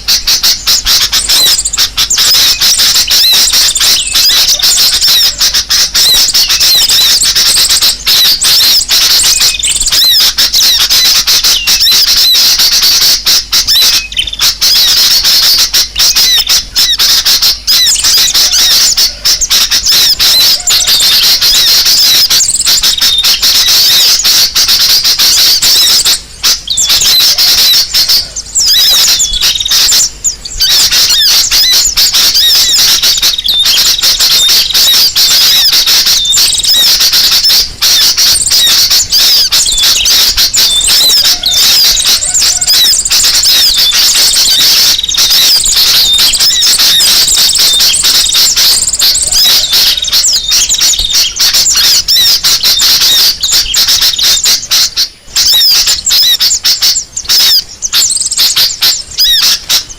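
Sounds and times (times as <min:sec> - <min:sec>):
small birds chattering: 0:00.0 - 0:59.9.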